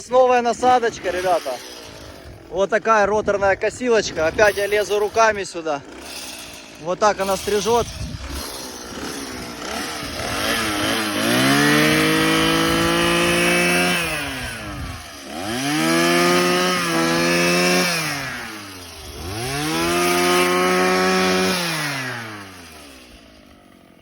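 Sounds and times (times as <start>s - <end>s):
brush cutter revving: 0.0s - 24.0s.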